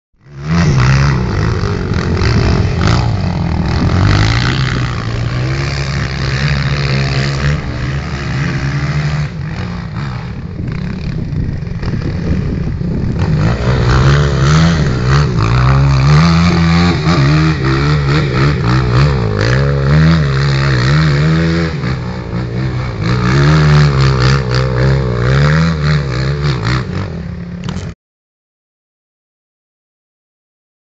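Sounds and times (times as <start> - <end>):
motorcycle engine revving: 0.2 - 28.0.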